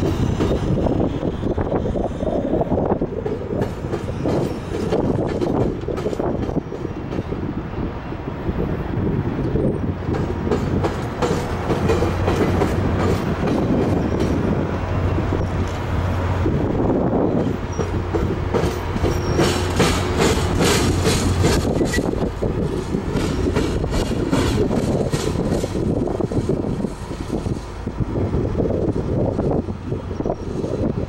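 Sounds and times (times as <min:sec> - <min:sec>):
train rumbling past: 0:00.0 - 0:31.0
wheels clicking over rail joints: 0:02.6 - 0:07.4, 0:09.4 - 0:16.5, 0:17.3 - 0:30.2.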